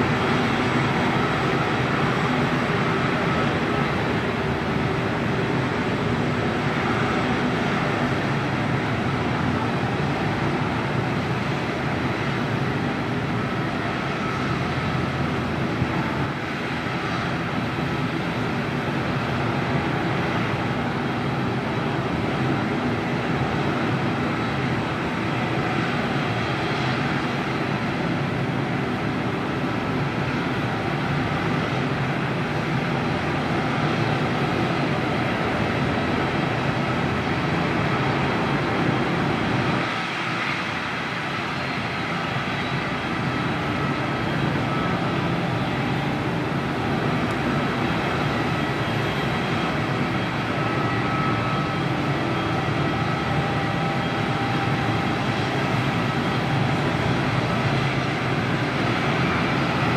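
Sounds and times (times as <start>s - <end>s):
turboprop engine idling: 0.0s - 59.9s.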